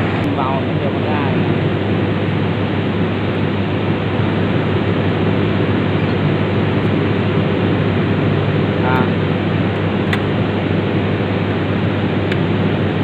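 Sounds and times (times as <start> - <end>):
machine humming steadily: 0.0 - 13.0.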